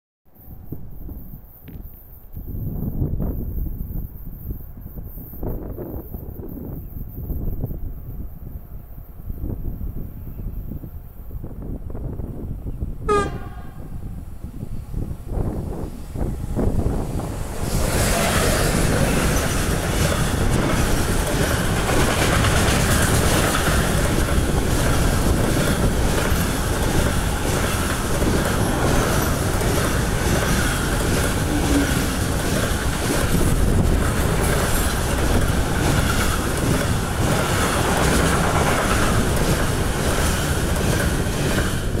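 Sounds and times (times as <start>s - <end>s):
freight train rumbling on rails: 0.3s - 42.0s.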